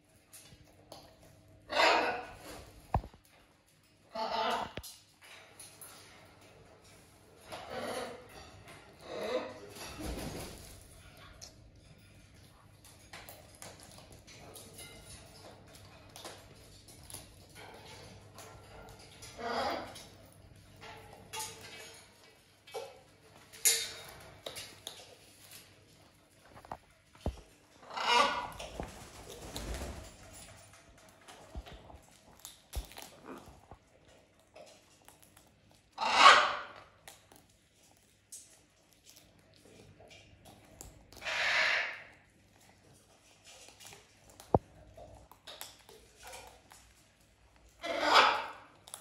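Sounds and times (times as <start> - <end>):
parrots cracking seeds: 0.1 - 10.0, 10.6 - 49.0.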